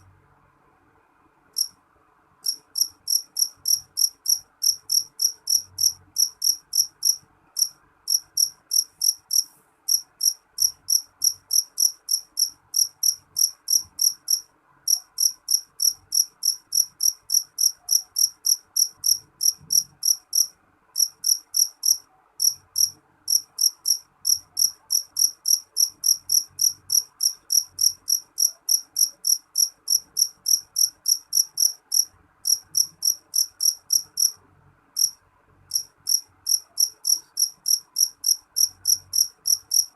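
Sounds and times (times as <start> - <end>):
cricket chirping: 2.4 - 34.4, 35.0 - 39.9.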